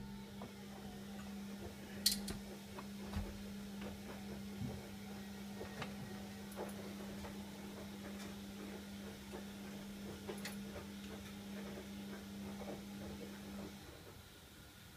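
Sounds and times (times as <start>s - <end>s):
exhaust fan humming: 0.0s - 14.9s.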